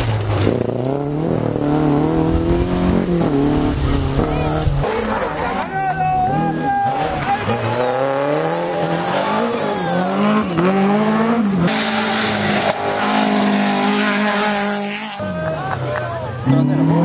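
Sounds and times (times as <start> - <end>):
road noise: 0.0 - 17.0
car engine revving hard: 0.1 - 5.6, 6.4 - 15.2.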